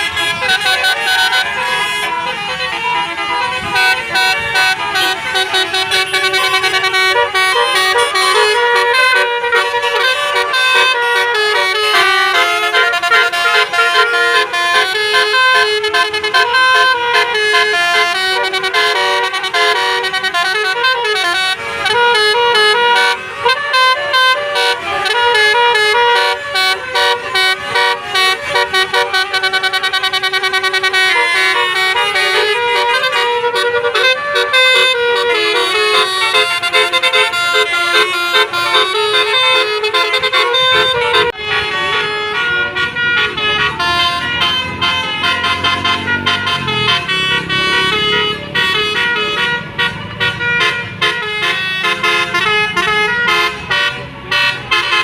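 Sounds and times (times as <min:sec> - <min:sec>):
bus air horns playing tunes: 0:00.0 - 0:55.0.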